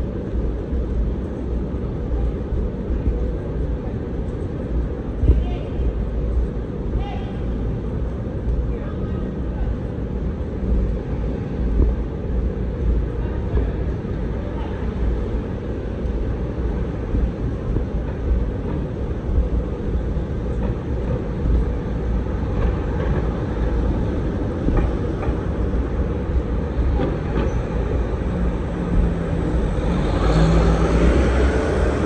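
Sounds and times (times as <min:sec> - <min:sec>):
low rumble of street noise: 0:00.0 - 0:32.0.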